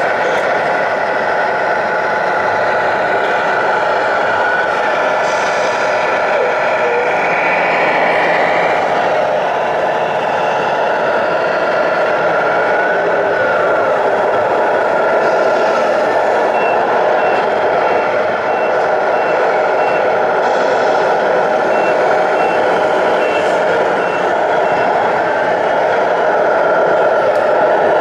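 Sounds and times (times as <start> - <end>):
steady drone: 0.0 - 28.0.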